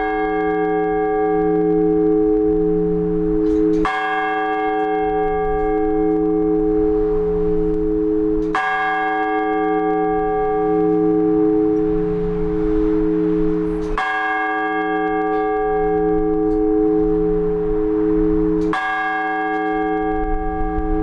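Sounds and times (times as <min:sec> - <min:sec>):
large church bell strokes: 0:00.0 - 0:21.0.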